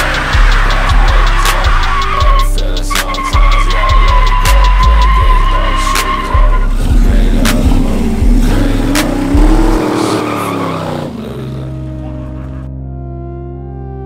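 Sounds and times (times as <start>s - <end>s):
hip-hop track heavy bass: 0.0s - 12.7s
tyres skidding on asphalt: 0.0s - 12.7s
engine revving: 0.0s - 14.0s.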